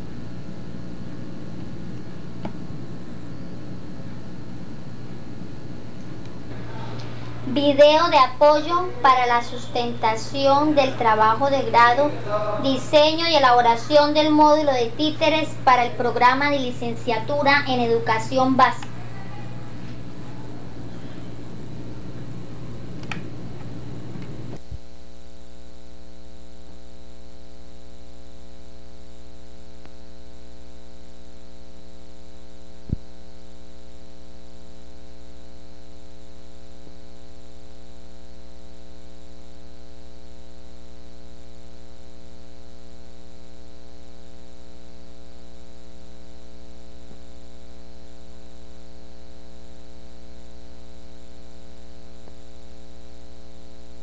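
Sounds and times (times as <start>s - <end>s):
mains hum: 0.0s - 54.0s.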